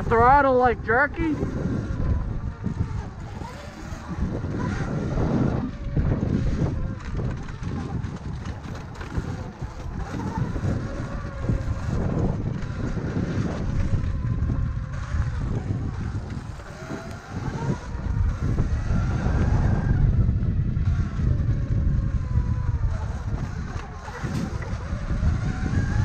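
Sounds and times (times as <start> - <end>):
electric motor whine: 0.0 - 26.0
wind rumbling on microphone: 0.0 - 26.0.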